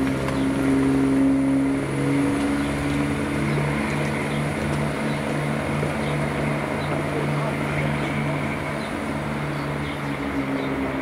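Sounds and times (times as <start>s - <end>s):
train diesel engines running: 0.0s - 11.0s.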